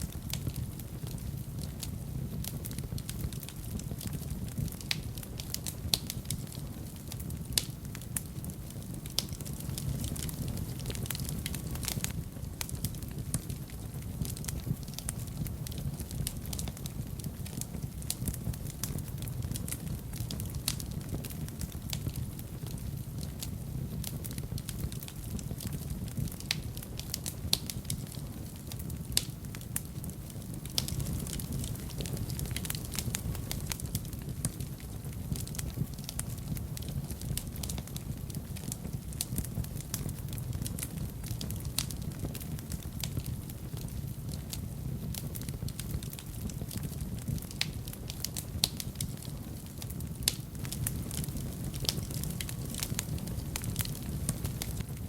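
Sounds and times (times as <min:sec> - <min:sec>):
fire crackles and pops: 0:00.0 - 0:55.0
fire rumble: 0:00.0 - 0:55.0.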